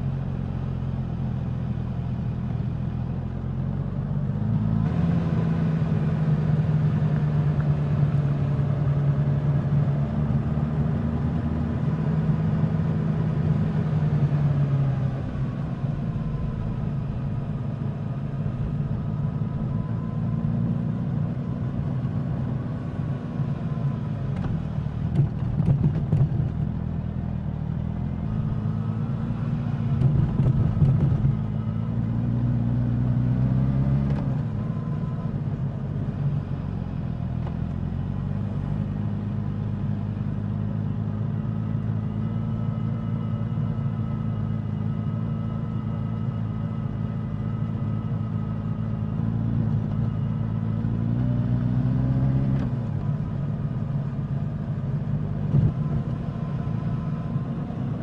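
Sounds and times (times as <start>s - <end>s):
motorcycle engine and exhaust: 0.0s - 58.0s.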